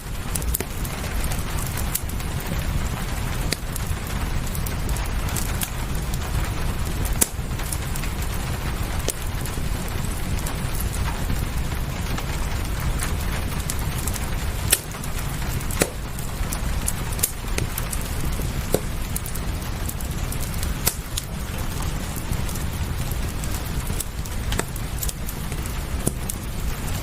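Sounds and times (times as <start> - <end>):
fire popping: 0.0 - 27.0
fireplace crackling: 0.0 - 27.0
rain hiss: 0.0 - 27.0.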